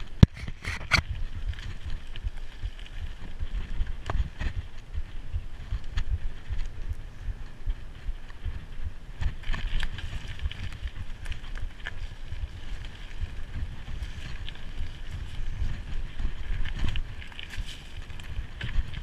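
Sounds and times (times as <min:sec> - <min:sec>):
bike rattling over ground: 0:00.0 - 0:19.0
wind buffeting microphone: 0:00.0 - 0:19.0.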